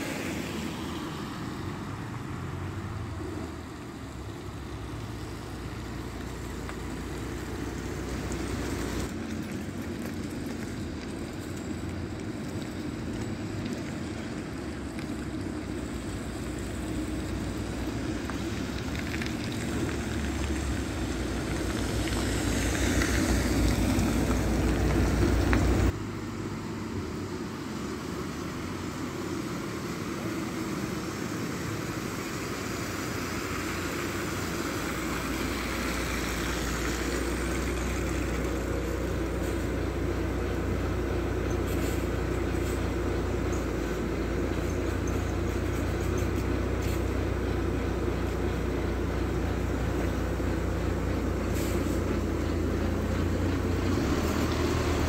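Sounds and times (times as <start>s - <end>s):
bus approaching on slushy road: 0.0s - 55.0s
bus engine hum on wet street: 0.0s - 55.0s.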